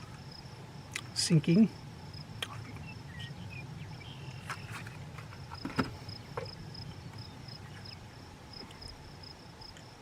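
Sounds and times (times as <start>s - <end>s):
insect chirping: 0.0s - 10.0s.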